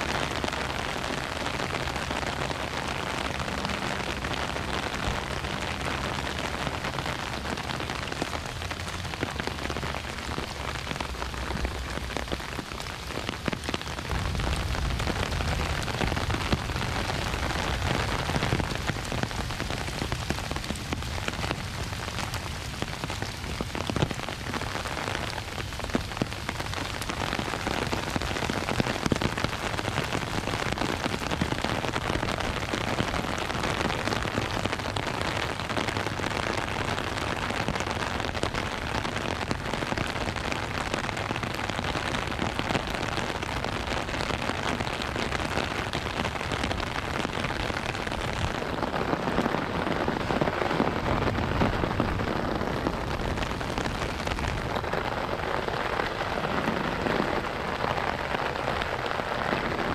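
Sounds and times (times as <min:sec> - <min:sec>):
rain tapping on umbrella: 0:00.0 - 0:59.9.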